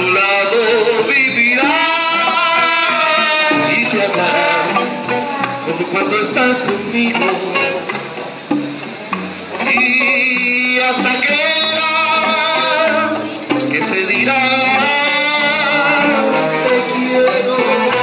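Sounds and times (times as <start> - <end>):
saxophone and trombone melody: 0.0 - 8.3, 9.5 - 18.0
street band playing bolero: 0.0 - 18.0.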